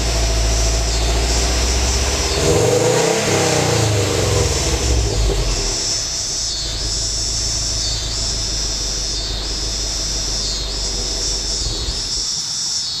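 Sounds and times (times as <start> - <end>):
car engine revving: 0.0 - 12.3
car engine idling: 0.0 - 12.5.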